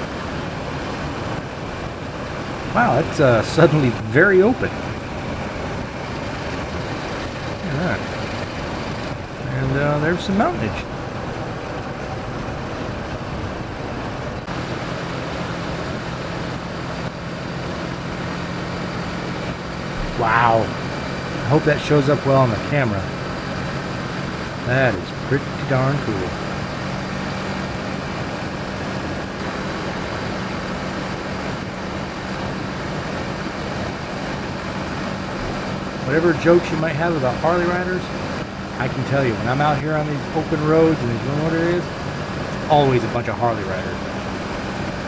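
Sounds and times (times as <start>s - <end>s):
motorcycle engine droning: 0.0s - 45.0s
wind and road noise: 0.0s - 45.0s.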